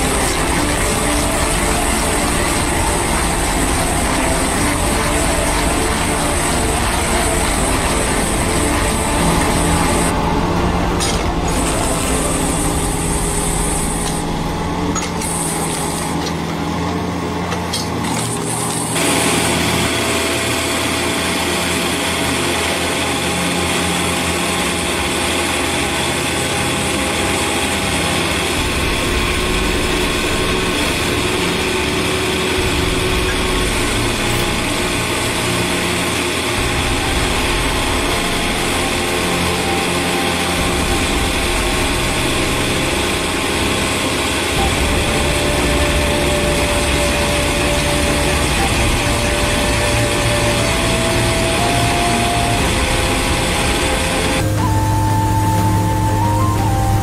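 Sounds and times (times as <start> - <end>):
stump grinder boring into wood: 0.0 - 56.0
excavator engine and hydraulics: 0.0 - 57.0.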